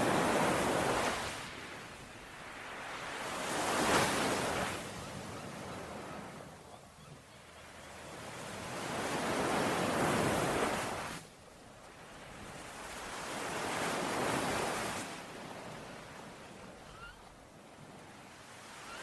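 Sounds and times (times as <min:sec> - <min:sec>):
ocean waves washing on shore: 0:00.0 - 0:07.0, 0:07.6 - 0:19.0.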